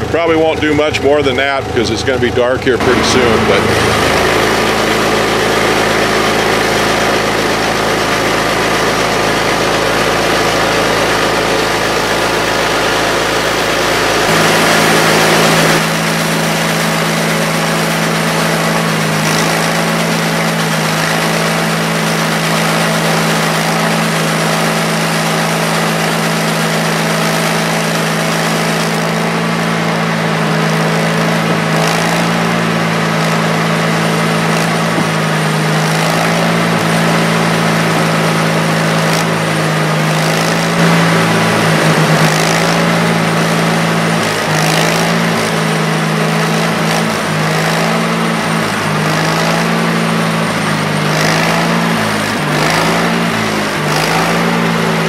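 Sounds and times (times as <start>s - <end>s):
band saw cutting log: 0.0s - 55.0s
sawmill engine running: 0.0s - 55.0s.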